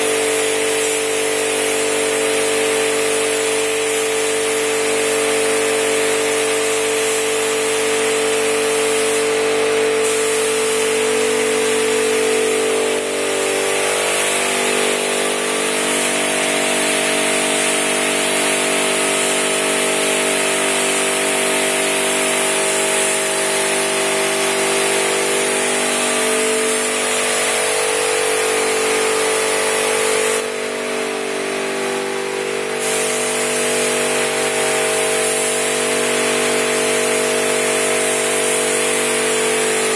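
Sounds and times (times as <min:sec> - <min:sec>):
paint spray gun hissing: 0:00.0 - 0:39.9.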